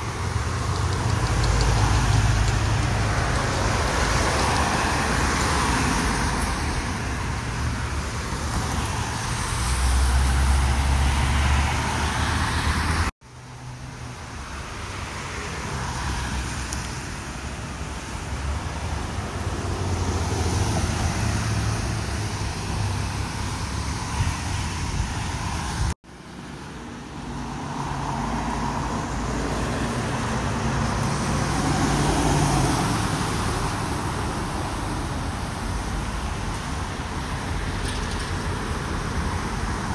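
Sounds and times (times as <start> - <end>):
cars passing on road: 0.0 - 39.9.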